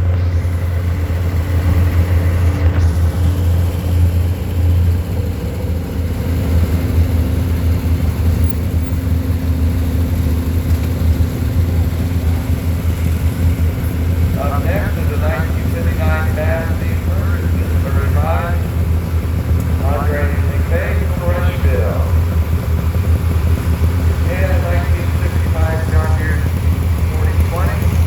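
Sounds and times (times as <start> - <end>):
tractor engine running at low speed: 0.0 - 28.0.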